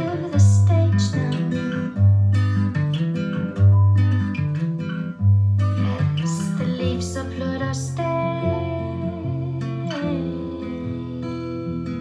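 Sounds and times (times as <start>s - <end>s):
plucked acoustic guitar: 0.0s - 12.0s.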